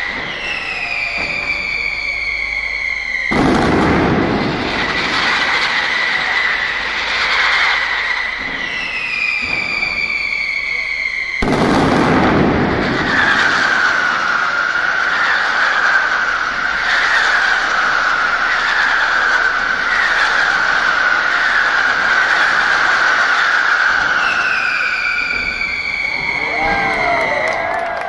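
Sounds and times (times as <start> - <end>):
high wavering whistle: 0.0 - 3.6, 5.8 - 11.6, 12.9 - 27.7
firecrackers barrage: 0.0 - 28.0.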